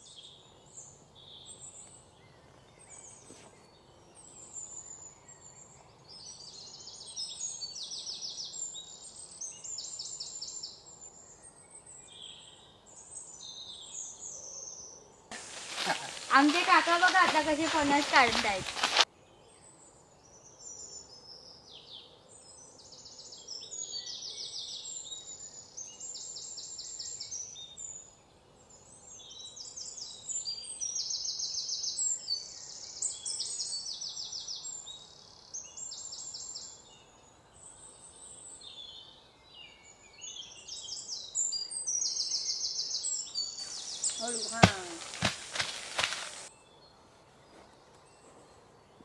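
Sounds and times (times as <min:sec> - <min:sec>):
wild birds chirping and trilling: 0:00.0 - 0:49.0.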